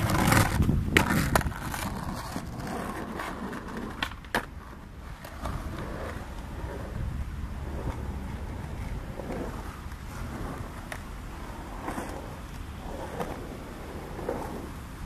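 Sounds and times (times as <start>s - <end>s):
skateboard clacks: 0.0s - 14.8s
skateboard rolling on concrete: 0.0s - 15.0s.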